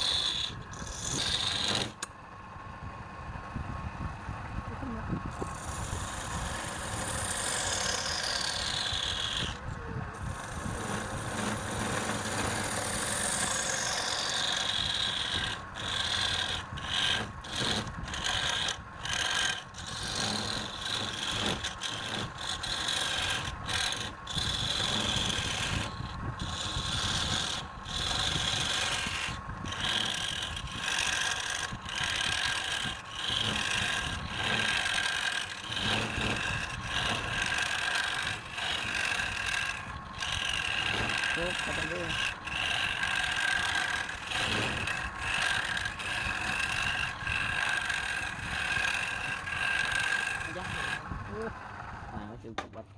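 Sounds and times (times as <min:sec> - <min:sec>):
power tool rasping wood: 0:00.0 - 0:02.1, 0:05.3 - 0:52.4.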